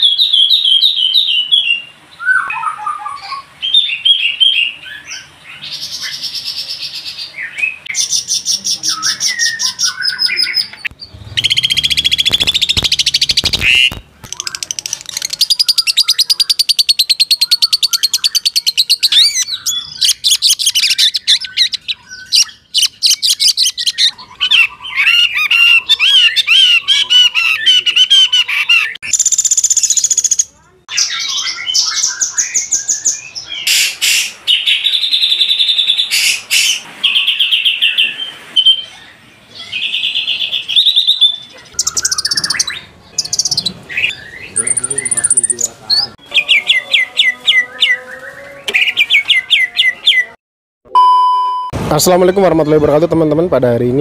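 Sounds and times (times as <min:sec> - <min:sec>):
songbirds singing: 0:00.0 - 0:50.4.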